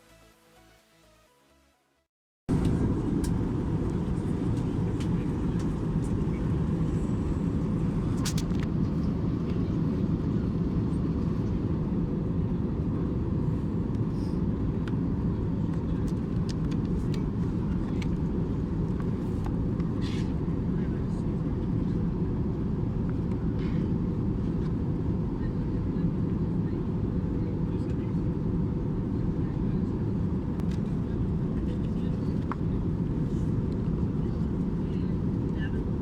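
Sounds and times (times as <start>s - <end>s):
airplane cabin rumble: 2.5s - 36.0s.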